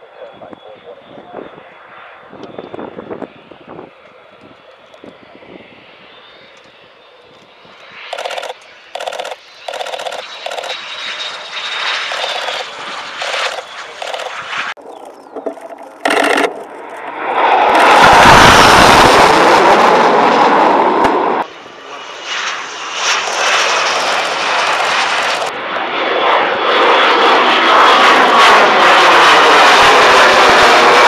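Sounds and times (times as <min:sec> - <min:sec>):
jet engine running overhead: 0:00.0 - 0:31.0
jets flying past: 0:05.0 - 0:31.0.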